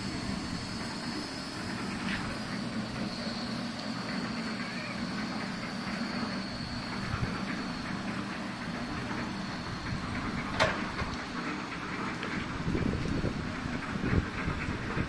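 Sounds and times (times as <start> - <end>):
concrete mixer drum rumbling: 0.0 - 15.0.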